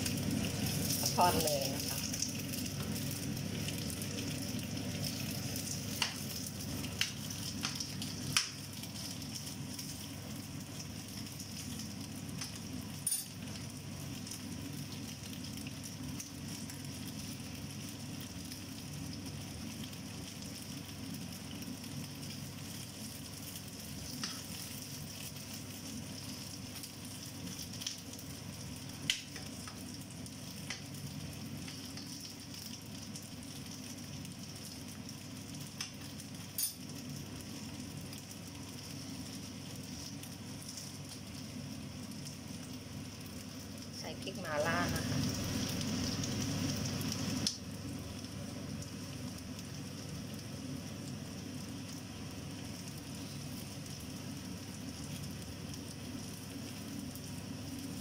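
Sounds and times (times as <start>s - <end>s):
soy pieces sizzling in a pan: 0.0s - 58.0s.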